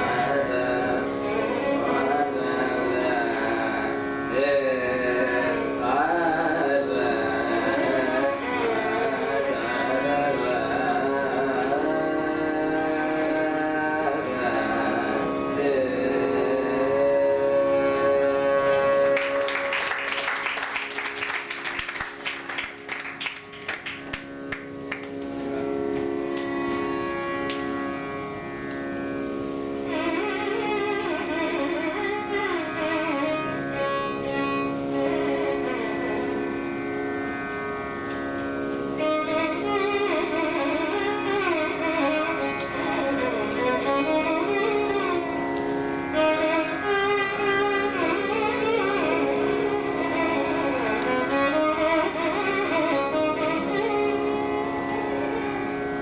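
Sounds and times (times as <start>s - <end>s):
tanpura drone: 0.0s - 56.0s
violin playing gliding melody: 0.0s - 56.0s.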